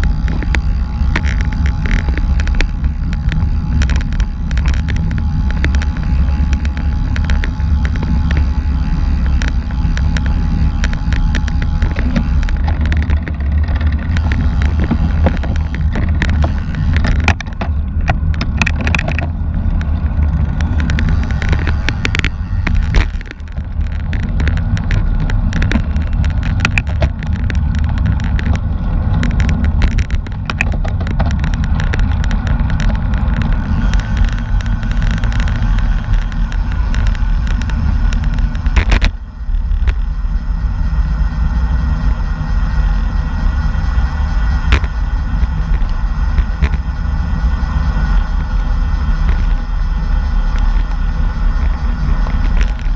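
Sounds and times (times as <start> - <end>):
bicycle road noise: 0.0 - 52.9
small rattles and clicks: 0.0 - 52.9
wind buffeting microphone: 0.0 - 52.9.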